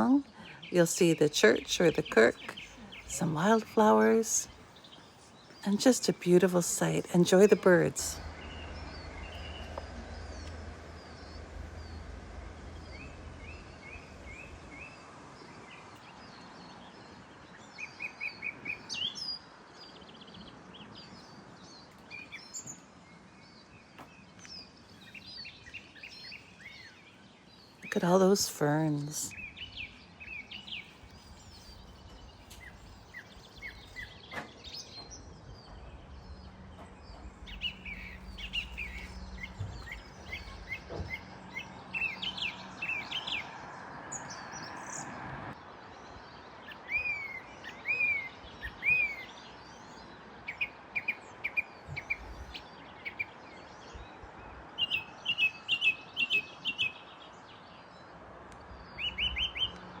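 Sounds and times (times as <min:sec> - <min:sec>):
songbirds chirping and trilling: 0:00.0 - 1:00.0.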